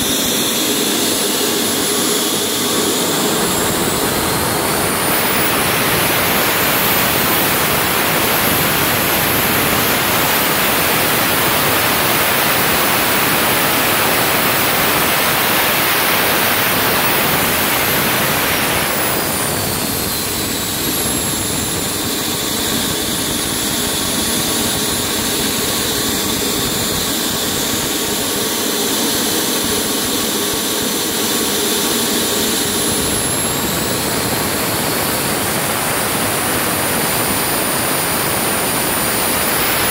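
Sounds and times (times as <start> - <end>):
jet engine rush and whine: 0.0 - 39.9.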